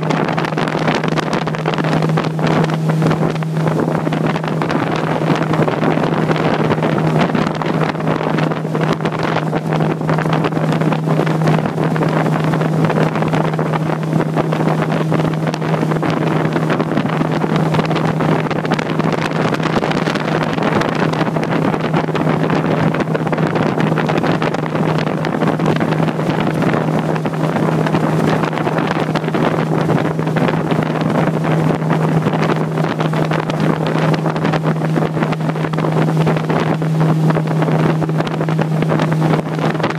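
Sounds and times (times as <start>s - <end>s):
boat motor drone: 0.0s - 39.9s
wind buffeting microphone: 0.0s - 39.9s.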